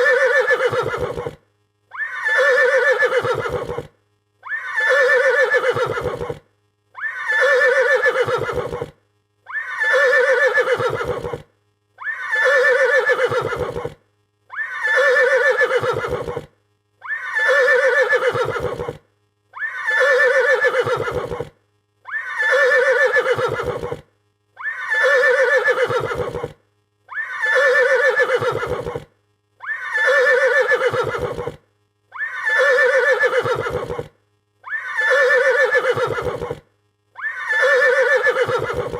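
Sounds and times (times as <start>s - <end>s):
horse whinnying: 0.0s - 6.4s, 7.0s - 8.9s, 9.5s - 11.4s, 12.0s - 19.0s, 19.6s - 21.5s, 22.1s - 24.0s, 24.6s - 36.6s, 37.2s - 38.9s.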